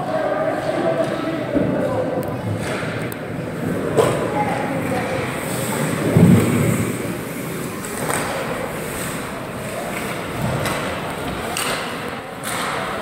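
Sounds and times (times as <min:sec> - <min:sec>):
hockey stick and puck clacks: 0:00.1 - 0:03.2, 0:03.8 - 0:13.0
skates scraping ice: 0:00.6 - 0:13.0.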